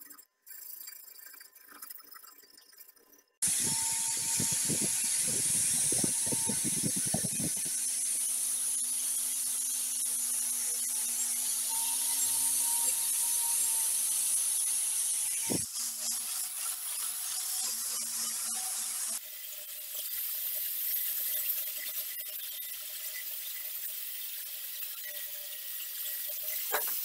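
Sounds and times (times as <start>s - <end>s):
electric grinder grinding steel: 3.4s - 27.0s.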